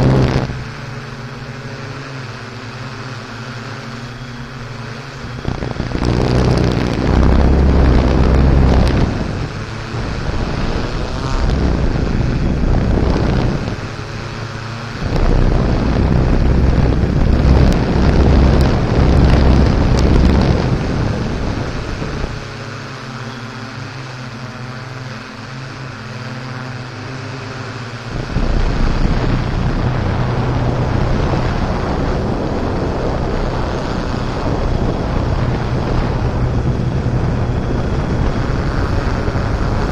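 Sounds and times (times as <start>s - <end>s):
off-road vehicle engine: 0.0s - 39.9s
wind buffeting microphone: 0.0s - 39.9s.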